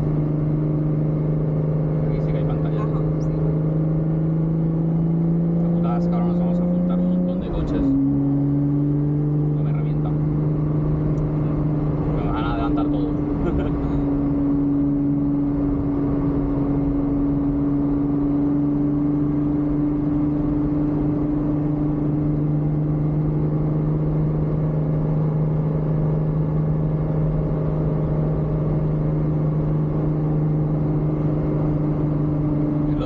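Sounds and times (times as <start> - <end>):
car engine steady note: 0.0 - 33.0
road and wind noise: 0.0 - 33.0.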